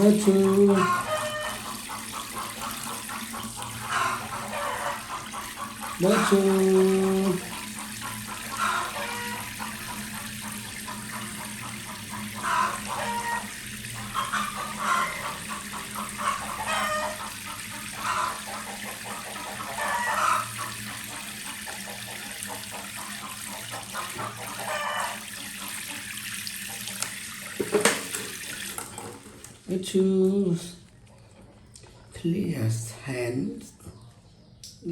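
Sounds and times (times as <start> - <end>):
tap water running into sink: 0.0 - 29.7.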